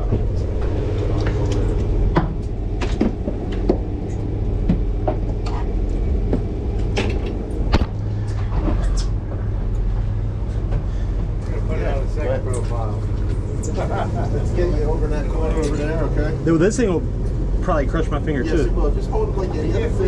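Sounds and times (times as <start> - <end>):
boat machinery hum: 0.0 - 20.0.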